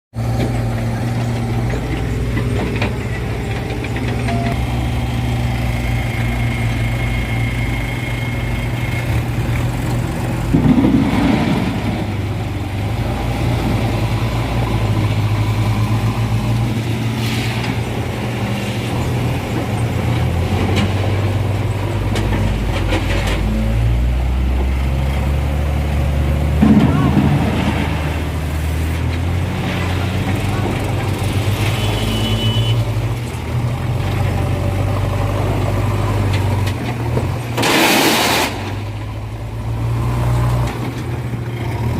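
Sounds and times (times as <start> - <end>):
heavy diesel engines running: 0.2 - 41.9.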